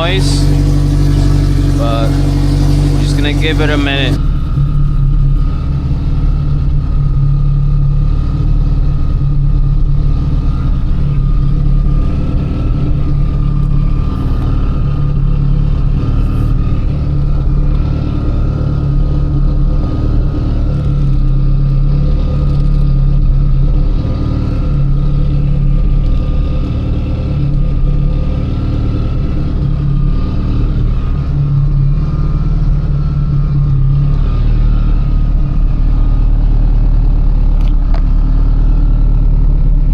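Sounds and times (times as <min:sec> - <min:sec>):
car engine and road noise rumble: 0:00.0 - 0:39.9.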